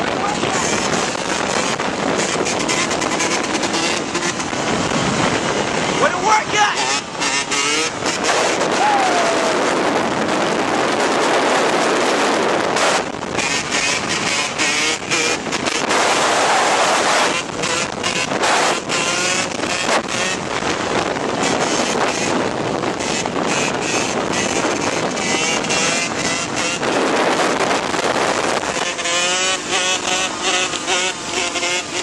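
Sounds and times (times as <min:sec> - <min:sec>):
dirt bike engines revving: 0:00.0 - 0:32.0
wind noise on microphone: 0:00.0 - 0:32.0.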